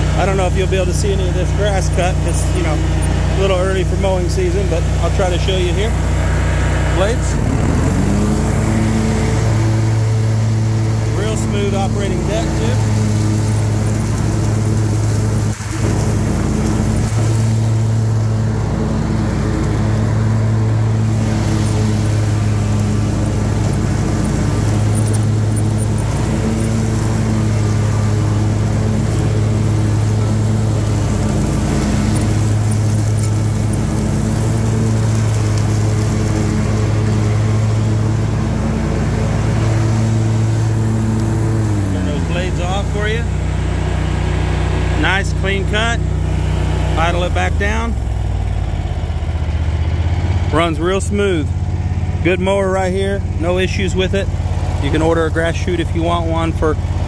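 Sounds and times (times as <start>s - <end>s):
mower engine running under load: 0.0s - 57.0s.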